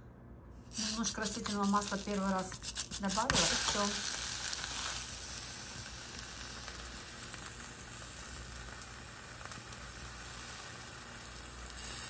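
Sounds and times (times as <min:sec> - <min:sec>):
flatbread sizzling in a frying pan: 0:00.7 - 0:12.0.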